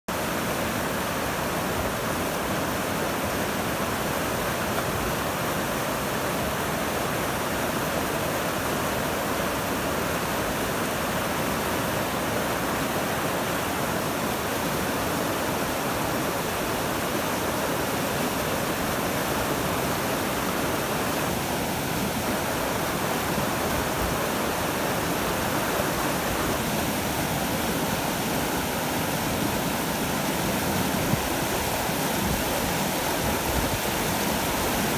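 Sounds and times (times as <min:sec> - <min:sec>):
whitewater rushing over rocks: 0:00.1 - 0:34.9.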